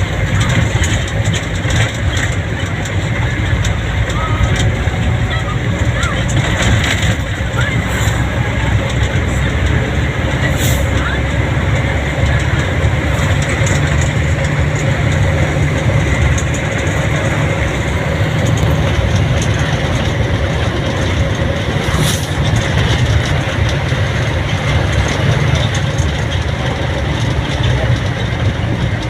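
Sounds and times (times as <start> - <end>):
vehicle road and engine noise: 0.0 - 29.0.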